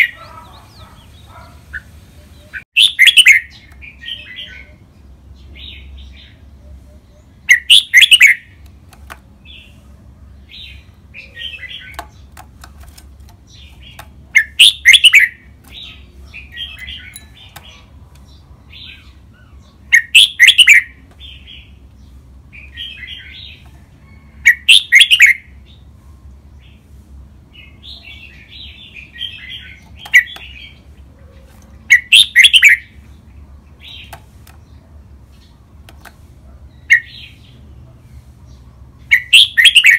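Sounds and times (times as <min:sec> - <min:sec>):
bird chirps and twitters: 0:00.0 - 0:08.7, 0:09.4 - 0:25.9, 0:27.6 - 0:39.9
bird song phrases: 0:00.0 - 0:39.9.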